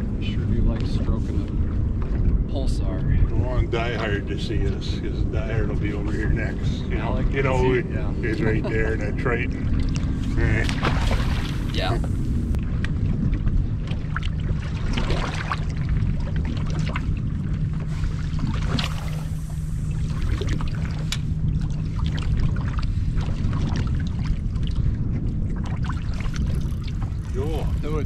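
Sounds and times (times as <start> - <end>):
steady low hum: 0.0 - 28.0
water lapping on boat: 0.0 - 28.0
wind: 0.0 - 28.0.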